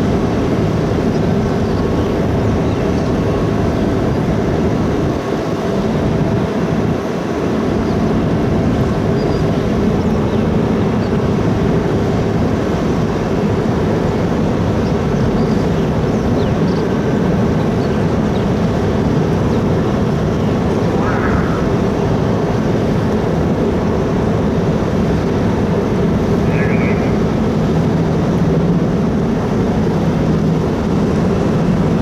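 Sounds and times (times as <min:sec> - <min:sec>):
ship engines droning: 0:00.0 - 0:32.0.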